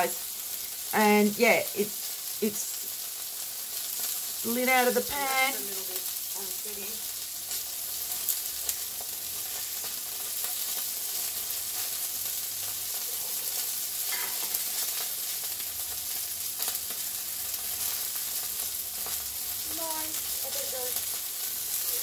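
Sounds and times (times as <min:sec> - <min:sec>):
chicken sizzling in a frying pan: 0:00.0 - 0:22.0.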